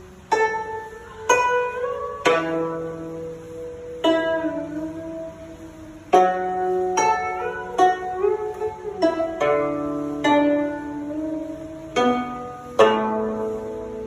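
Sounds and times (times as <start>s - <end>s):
plucked zither notes: 0.0s - 14.0s.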